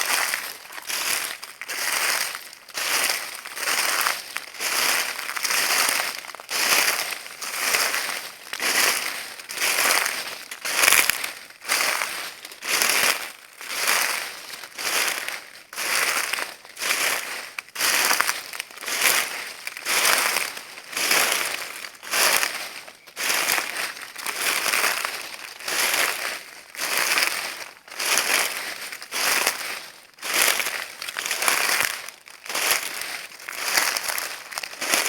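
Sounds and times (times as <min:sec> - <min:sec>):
footsteps crunching dry leaves: 0:00.0 - 0:35.0.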